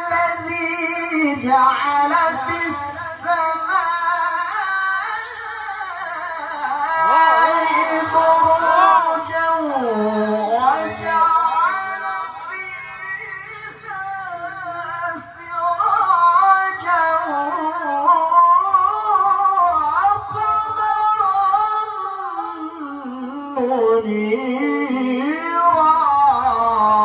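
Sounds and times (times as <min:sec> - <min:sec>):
man reciting melodically: 0:00.0 - 0:27.0.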